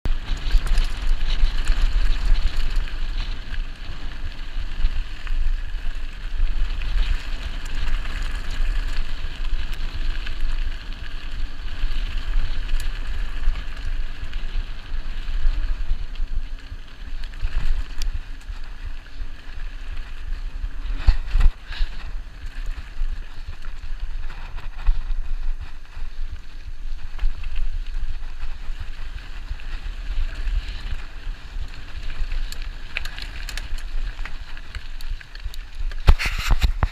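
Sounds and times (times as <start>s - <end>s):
steady rushing hiss: 0.1s - 36.9s.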